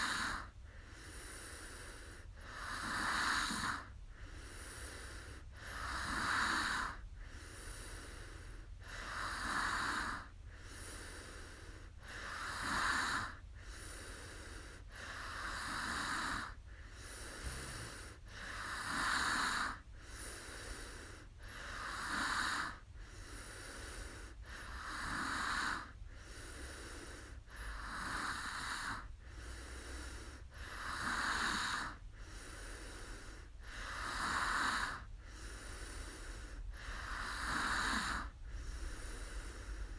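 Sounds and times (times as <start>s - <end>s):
woman snoring: 0.0s - 39.9s.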